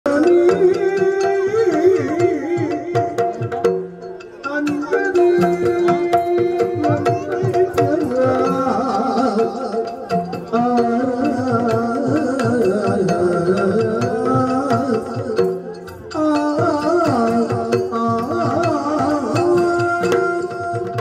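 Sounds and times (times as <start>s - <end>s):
drums in rapid strokes: 0.1s - 21.0s.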